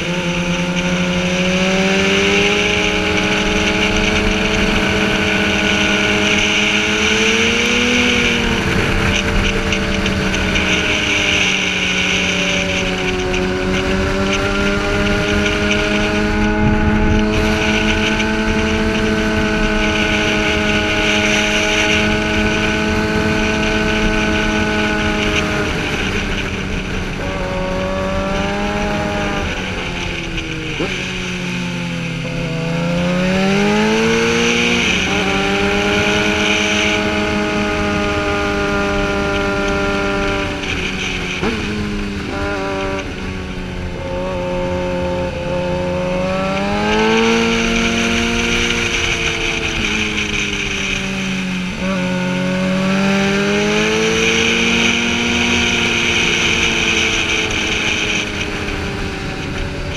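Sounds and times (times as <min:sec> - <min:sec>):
motorcycle engine revving high: 0:00.0 - 0:59.9
wind rushing on microphone: 0:00.0 - 0:59.9.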